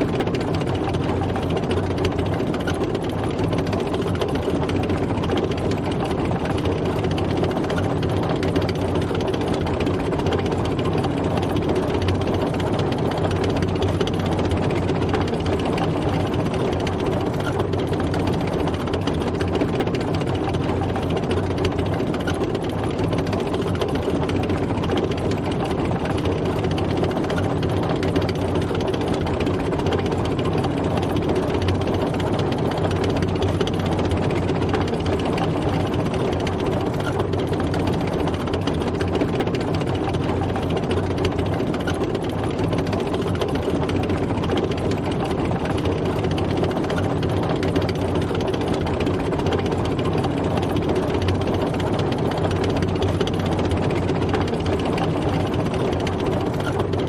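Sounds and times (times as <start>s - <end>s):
tank engine running: 0.0s - 57.0s.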